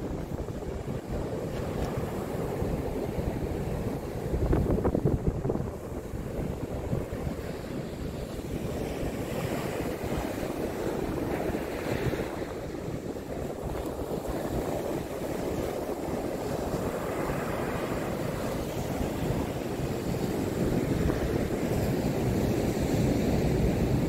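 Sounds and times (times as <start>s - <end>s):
surf breaking on sandy beach: 0.0s - 24.0s
wind buffeting microphone: 0.0s - 24.0s.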